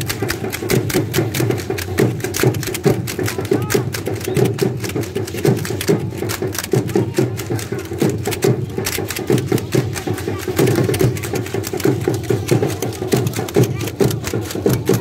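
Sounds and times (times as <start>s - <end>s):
hand drum beating: 0.0s - 15.0s
sandals clattering on pavement: 0.0s - 15.0s.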